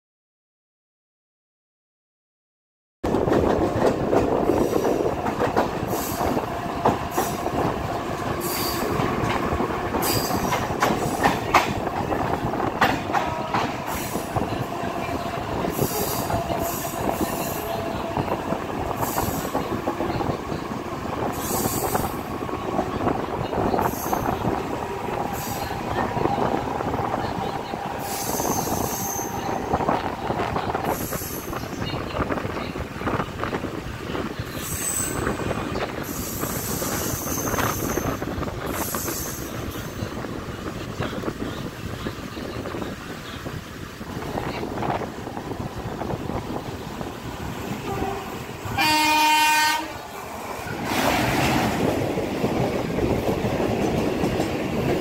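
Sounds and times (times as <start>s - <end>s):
train wheels rumbling on rail: 3.0s - 55.0s.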